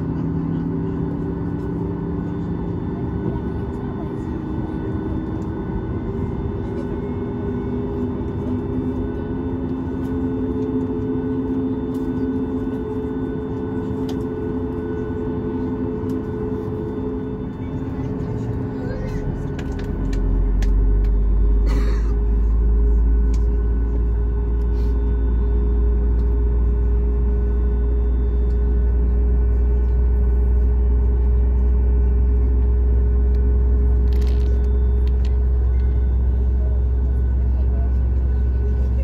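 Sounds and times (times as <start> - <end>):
airplane cabin rumble: 0.0 - 39.0.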